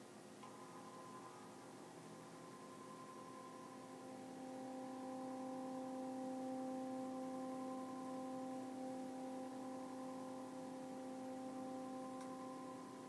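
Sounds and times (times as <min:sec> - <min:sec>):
steady synthesized tone: 0:00.4 - 0:13.0.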